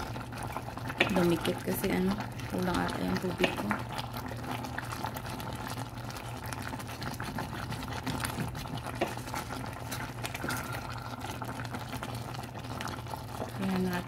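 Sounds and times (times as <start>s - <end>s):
water bubbling and popping: 0.0s - 14.0s.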